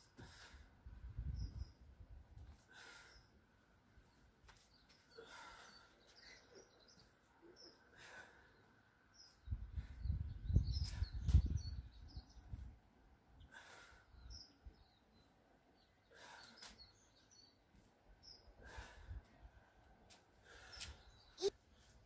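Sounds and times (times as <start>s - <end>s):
small birds chirping: 1.2s - 22.0s.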